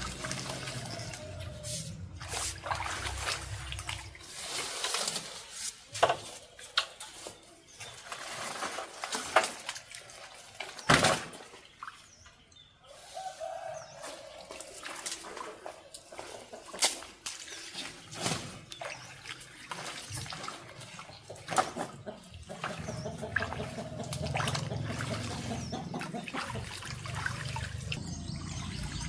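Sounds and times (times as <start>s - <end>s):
water splashing and sloshing: 0.0s - 29.0s.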